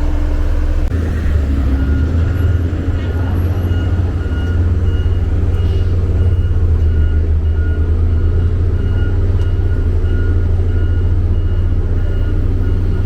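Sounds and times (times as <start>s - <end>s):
diesel engine running: 0.0s - 13.0s
reversing alarm beeping: 0.0s - 13.0s.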